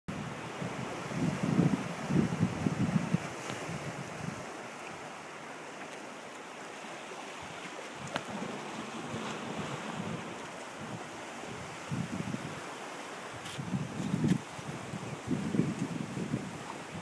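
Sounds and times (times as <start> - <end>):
wind buffeting microphone: 0.1 - 5.1, 7.4 - 17.0
ocean surf hissing: 0.2 - 17.0.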